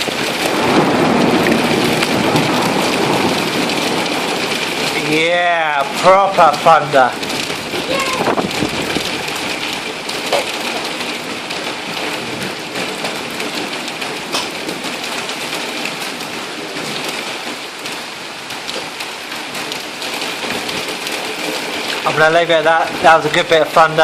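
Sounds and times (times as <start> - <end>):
heavy rain pouring: 0.0 - 24.0
raindrops ticking close by: 0.0 - 24.0.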